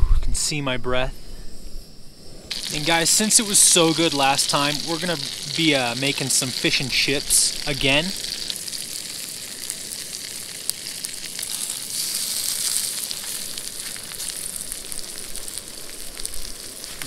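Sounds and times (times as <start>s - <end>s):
potatoes sizzling in butter: 2.5s - 17.0s.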